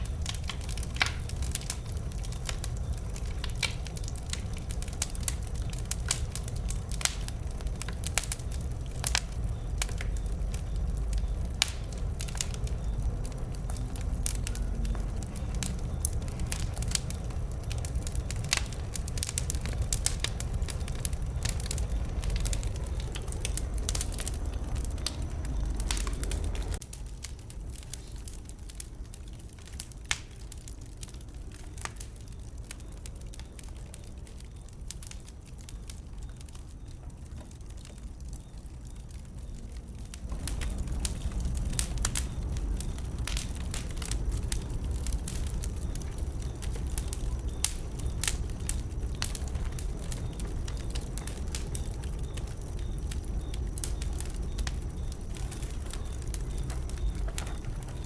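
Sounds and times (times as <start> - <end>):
steady low rumble: 0.0 - 58.0
wood fire popping: 0.0 - 58.0.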